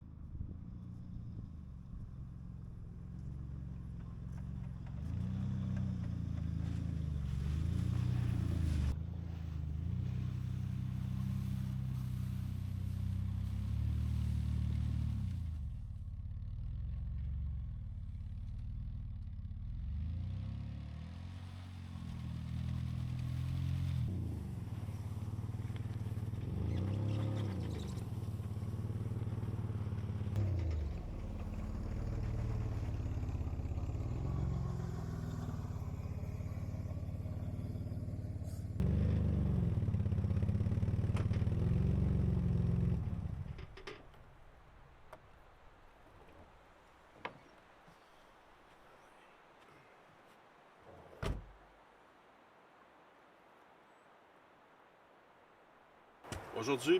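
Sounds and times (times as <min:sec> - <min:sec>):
vehicle engine revving: 0:00.4 - 0:46.6.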